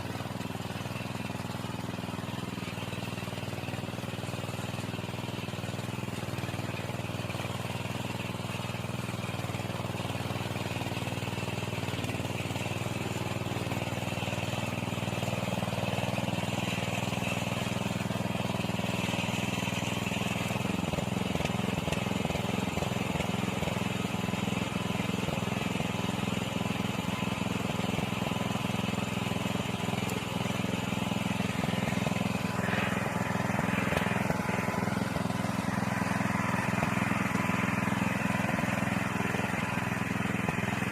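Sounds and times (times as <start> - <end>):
soil tiller engine running: 0.0 - 40.9.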